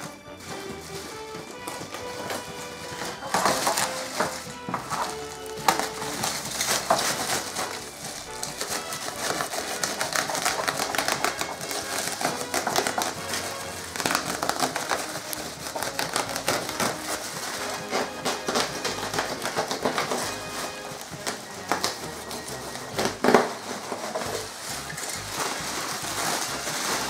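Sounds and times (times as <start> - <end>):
box cutter cutting plastic: 0.0 - 27.0
bubble wrap crinkling: 0.0 - 27.0.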